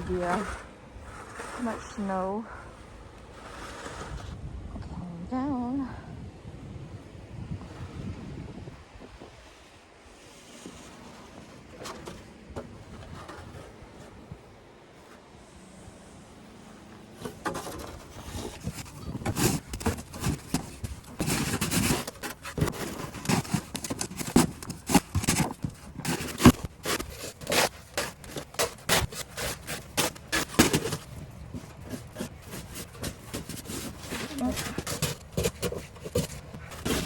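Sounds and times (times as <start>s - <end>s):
crunching and scraping in snow: 0.0s - 4.4s, 7.3s - 37.0s.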